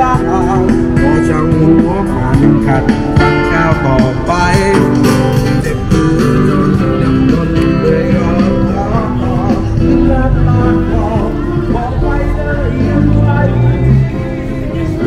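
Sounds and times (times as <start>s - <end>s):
guitar music with singing: 0.0s - 15.0s.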